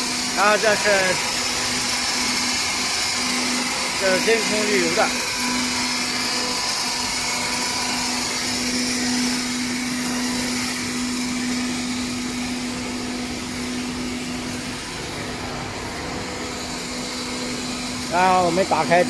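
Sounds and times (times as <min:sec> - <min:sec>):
machine motors humming: 0:00.0 - 0:19.0.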